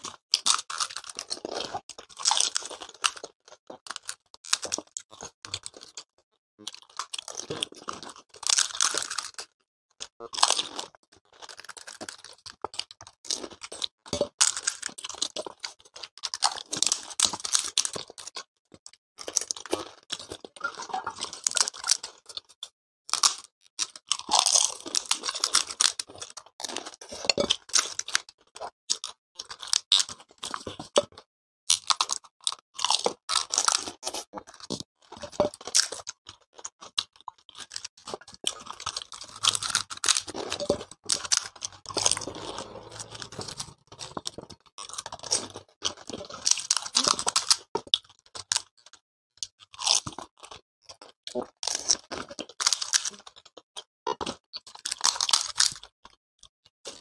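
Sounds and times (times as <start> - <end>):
chewing: 0.0 - 57.0
crunching of crisp shells: 0.0 - 57.0.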